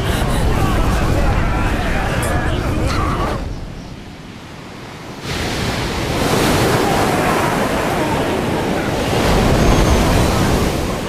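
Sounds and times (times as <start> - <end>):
rushing churning water: 0.0 - 11.0.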